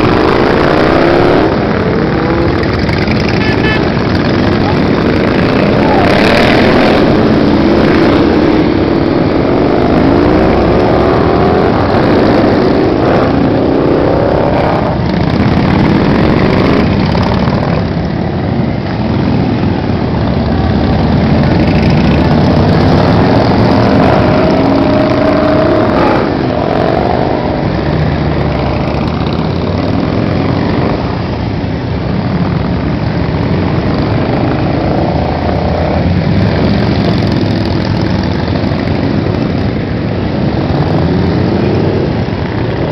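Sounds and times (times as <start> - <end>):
motorcycles riding past: 0.0 - 42.9.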